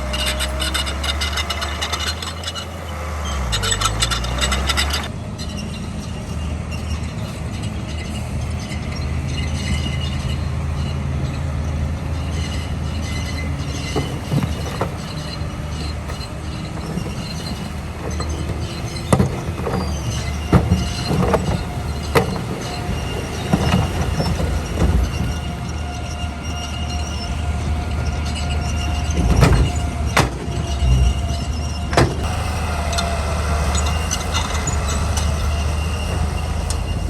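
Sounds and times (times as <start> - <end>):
bulldozer diesel engine running: 0.0 - 37.0
steel tracks squealing and clanking: 0.0 - 37.0.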